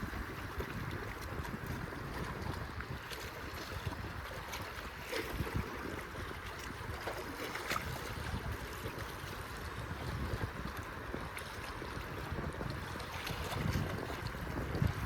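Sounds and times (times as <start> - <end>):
rushing water: 0.0 - 15.0
wind on microphone: 0.0 - 15.0.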